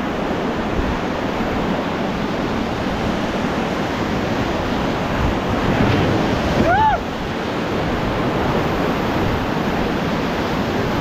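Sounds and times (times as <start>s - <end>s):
river rapids roaring: 0.0s - 11.0s.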